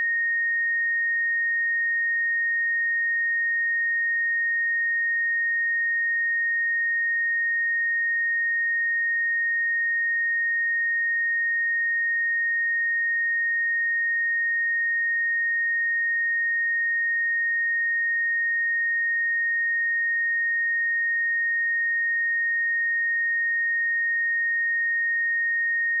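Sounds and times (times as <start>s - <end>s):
sine wave test tone: 0.0s - 26.0s.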